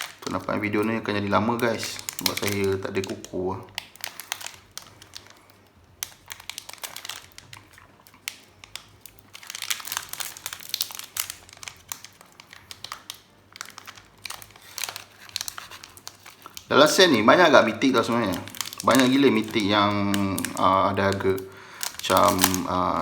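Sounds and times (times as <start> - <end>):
foil wrapper crinkling: 0.0 - 23.0.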